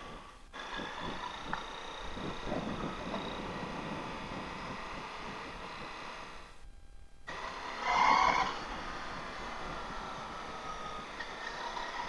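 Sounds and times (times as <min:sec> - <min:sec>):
wind rush while riding: 0:00.0 - 0:06.6, 0:07.3 - 0:12.0.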